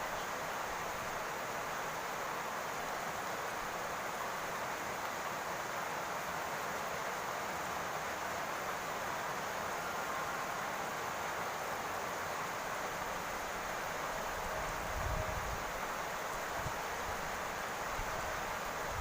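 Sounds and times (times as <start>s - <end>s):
rain falling on a roof: 0.0s - 19.0s.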